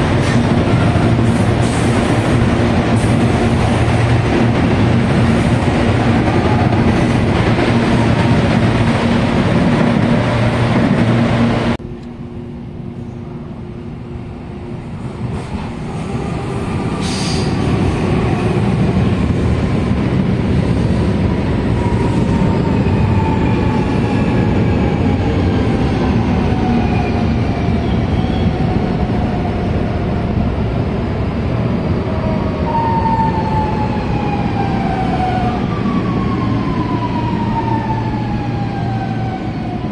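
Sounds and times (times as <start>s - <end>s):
train rolling in and slowing: 0.0s - 39.9s.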